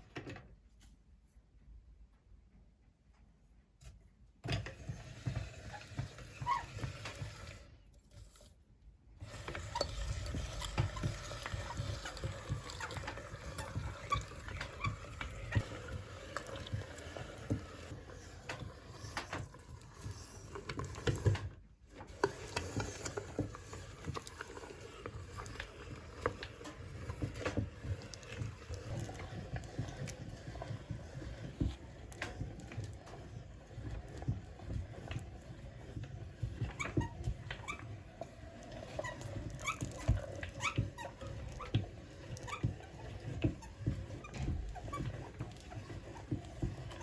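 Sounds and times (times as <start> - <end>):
meat grinder crunching: 9.2 - 47.0.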